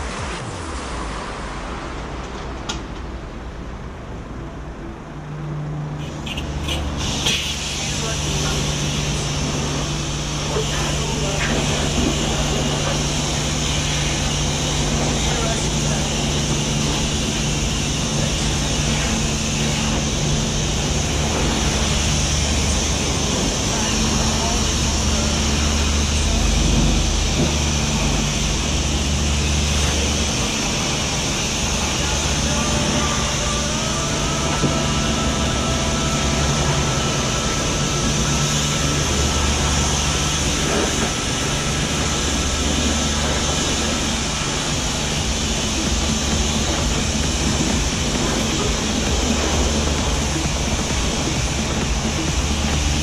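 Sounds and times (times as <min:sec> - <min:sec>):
water jet spraying hiss: 0:00.0 - 0:02.2, 0:06.0 - 0:53.0
low pump hum: 0:03.0 - 0:53.0.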